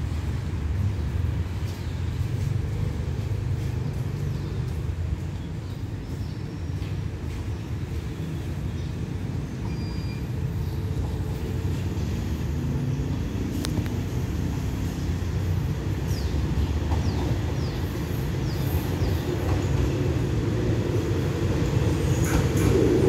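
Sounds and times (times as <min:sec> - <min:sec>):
diesel train engine rumble: 0:00.0 - 0:23.0.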